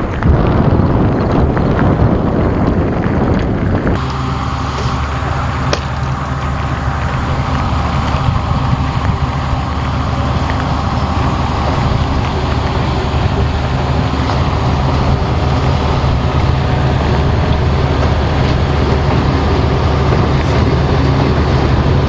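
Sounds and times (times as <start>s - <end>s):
low engine drone: 0.0s - 22.0s
wind and rumble of moving vehicle: 0.0s - 22.0s.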